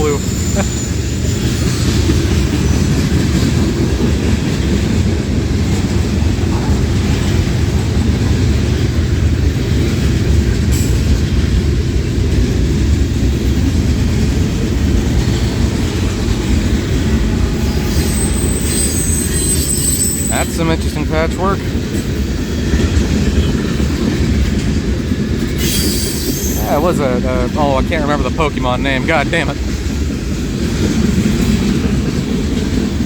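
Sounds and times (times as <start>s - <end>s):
freight train wheels on rail: 0.0s - 33.0s.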